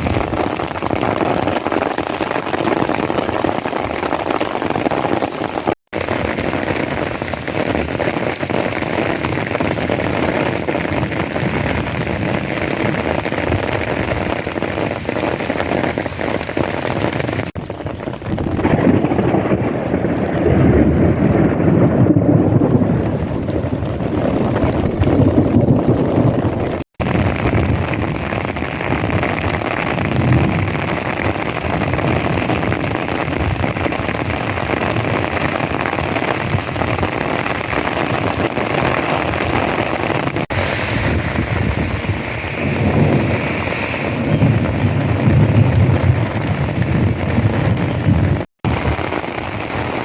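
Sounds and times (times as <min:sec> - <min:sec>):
downpour roaring: 0:00.0 - 0:50.0.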